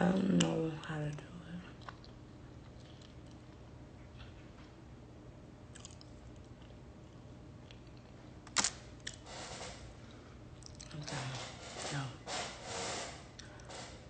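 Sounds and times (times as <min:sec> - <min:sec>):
quiet eating noises: 0:00.0 - 0:04.8, 0:05.6 - 0:14.0
low room hum: 0:00.0 - 0:14.0.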